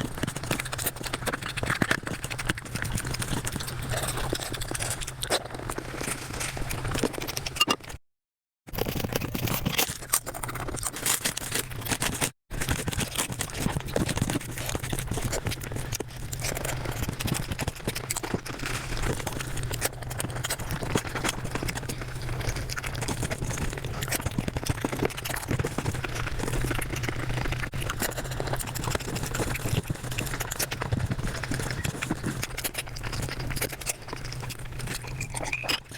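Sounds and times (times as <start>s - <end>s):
sped-up chewing and smacking: 0.0s - 8.0s, 8.7s - 35.9s.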